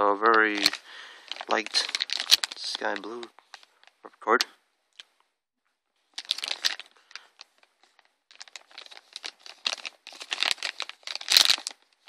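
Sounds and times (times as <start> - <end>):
plastic bag crinkling: 0.1 - 4.0, 6.1 - 12.0.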